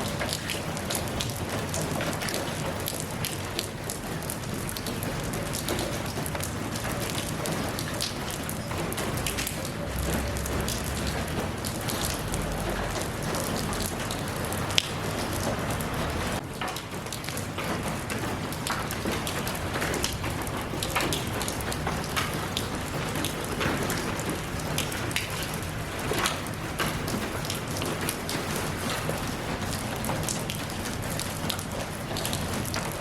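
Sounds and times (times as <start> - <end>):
rain on hard surfaces: 0.0 - 33.0.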